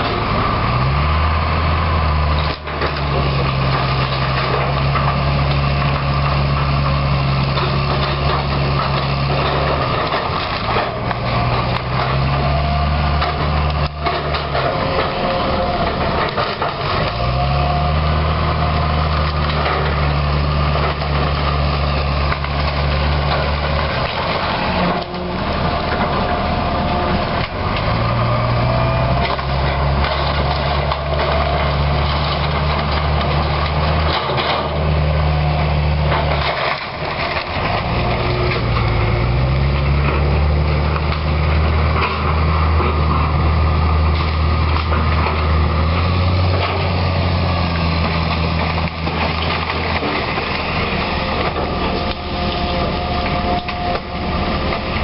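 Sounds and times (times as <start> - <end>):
excavator diesel engine under load: 0.0 - 55.0
wooden boards cracking and breaking: 2.4 - 17.9, 18.6 - 40.2, 44.1 - 55.0.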